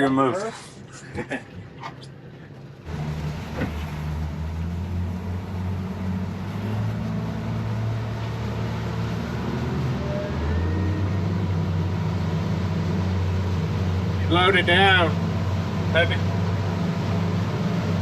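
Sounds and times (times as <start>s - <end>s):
outboard motors droning: 0.0s - 18.0s.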